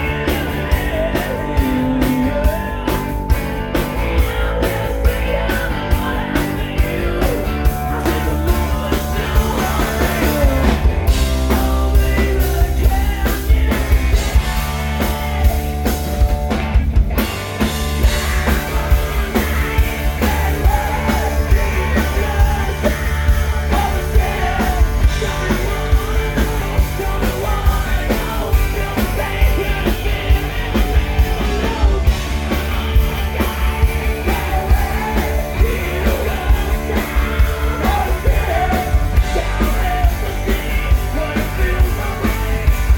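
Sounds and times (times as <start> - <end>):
man singing: 0.0 - 15.9, 18.4 - 42.9
hard rock band playing: 0.0 - 42.9.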